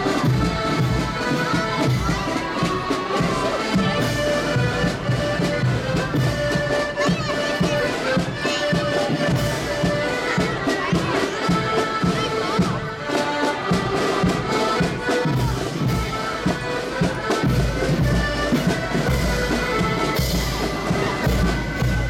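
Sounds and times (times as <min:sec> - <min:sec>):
accordions playing a march: 0:00.0 - 0:22.0
marching drums: 0:00.0 - 0:22.0.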